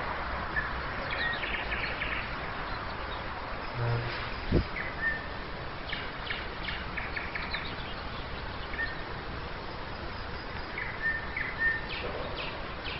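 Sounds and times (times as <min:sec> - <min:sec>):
steady background hiss: 0:00.0 - 0:12.9
nightingale singing: 0:00.5 - 0:12.9.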